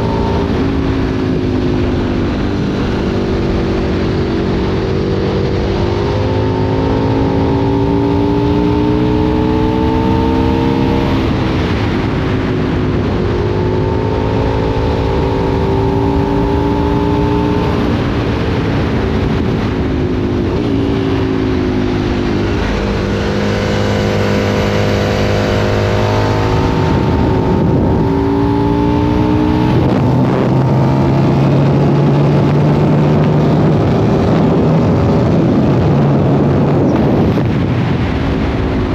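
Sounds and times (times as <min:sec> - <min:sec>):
motorcycle engine accelerating: 0:00.0 - 0:38.9
wind rushing over microphone: 0:00.0 - 0:38.9.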